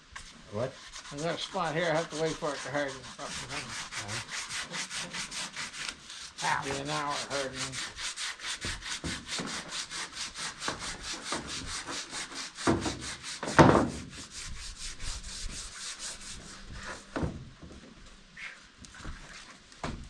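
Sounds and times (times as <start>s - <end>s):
sandpaper rubbing on metal: 0.2s - 17.1s.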